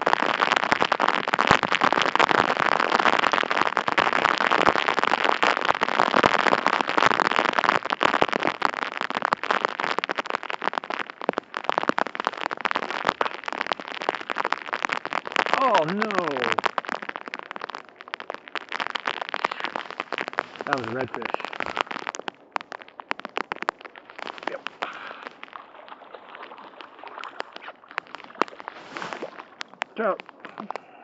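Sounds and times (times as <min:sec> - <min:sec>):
rain drops pattering: 0:00.0 - 0:31.0.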